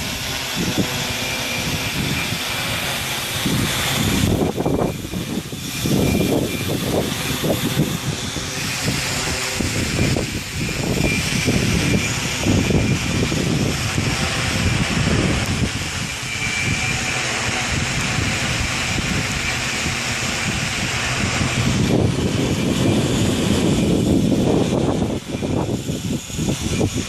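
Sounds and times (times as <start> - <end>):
drone motors whining: 0.0 - 27.0
wind buffeting microphone: 0.0 - 27.0.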